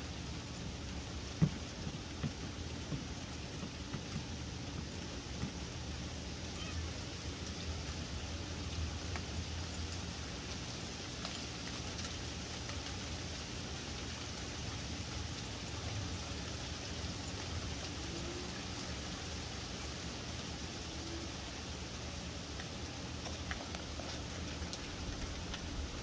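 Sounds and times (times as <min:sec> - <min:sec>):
hail falling: 0:00.6 - 0:26.0.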